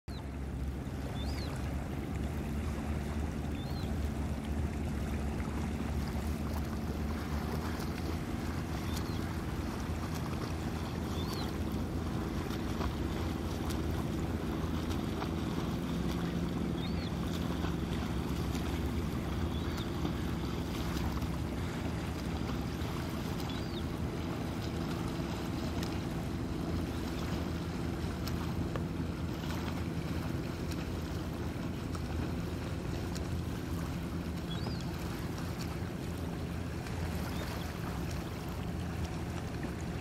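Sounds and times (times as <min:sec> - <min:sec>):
low shoreline rumble: 0:00.1 - 0:40.0.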